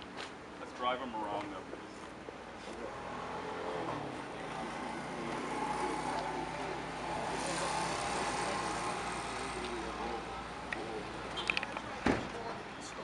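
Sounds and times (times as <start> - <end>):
hissing road noise: 0.0 - 13.0.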